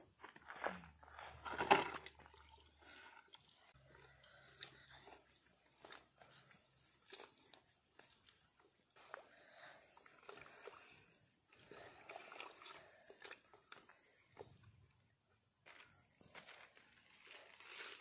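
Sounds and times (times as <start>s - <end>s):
hand kneading wet mix: 0.0s - 18.0s.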